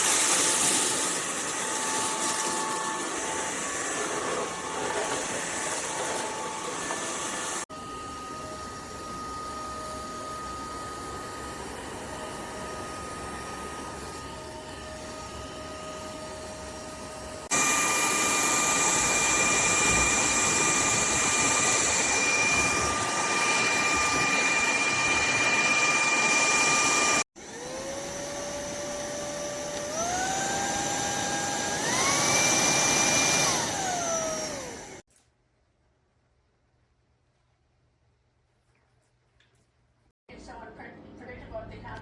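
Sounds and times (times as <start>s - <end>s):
stick vacuum motor whining: 0.1s - 35.0s.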